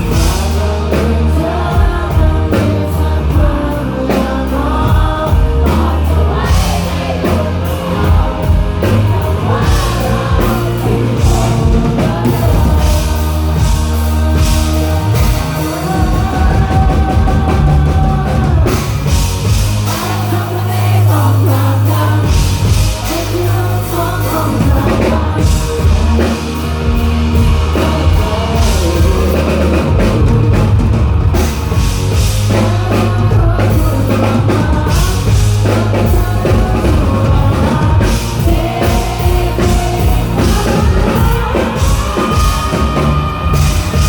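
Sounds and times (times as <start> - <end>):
bass line: 0.0 - 44.0
drum kit: 0.0 - 44.0
guitars: 0.0 - 44.0
person singing lead vocal: 0.0 - 44.0.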